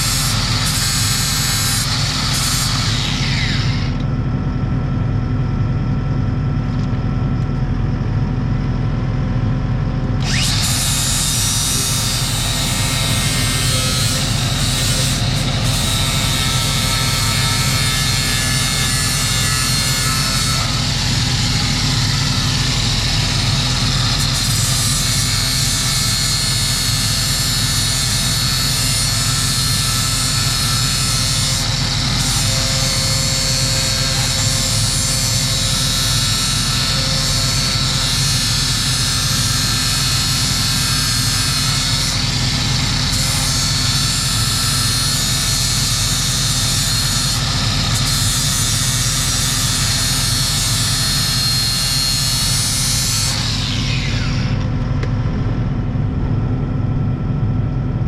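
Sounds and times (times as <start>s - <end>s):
angle grinder grinding steel: 0.0s - 4.0s, 10.2s - 54.7s.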